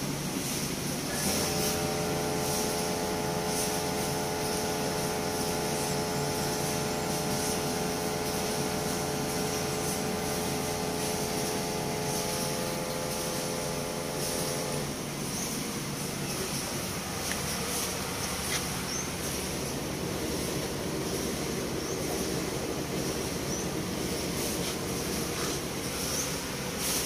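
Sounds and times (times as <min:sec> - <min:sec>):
electric pump whining: 0:00.0 - 0:27.0.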